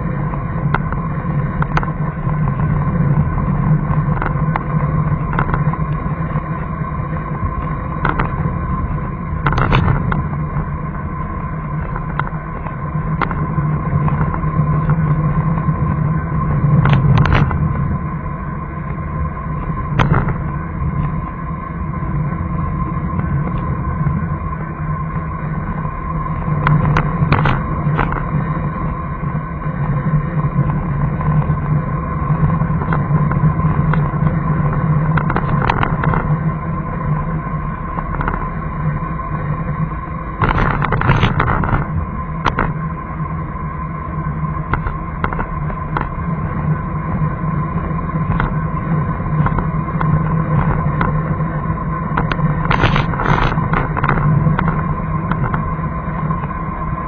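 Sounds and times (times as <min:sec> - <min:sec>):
car engine and road hum: 0:00.0 - 0:57.0.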